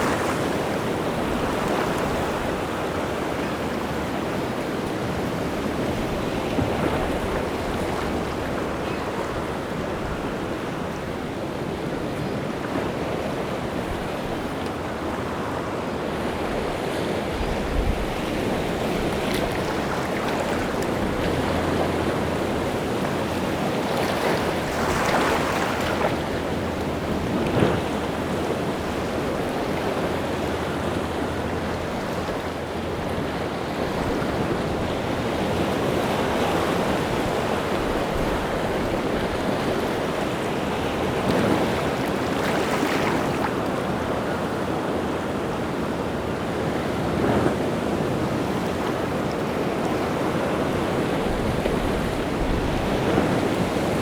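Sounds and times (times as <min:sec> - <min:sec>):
sea surf breaking on shore: 0:00.0 - 0:54.0
wind: 0:00.0 - 0:54.0.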